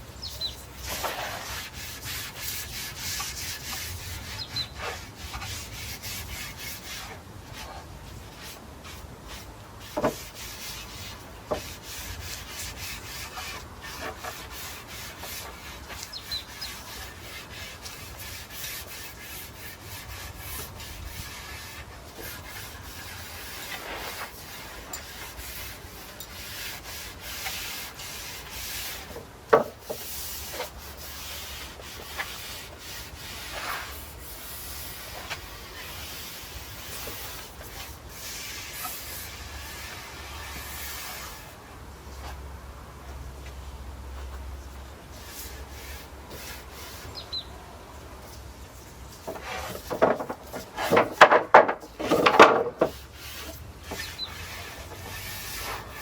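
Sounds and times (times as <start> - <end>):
paint brush strokes on wood: 0.2 - 42.4, 44.2 - 47.5, 48.2 - 56.0.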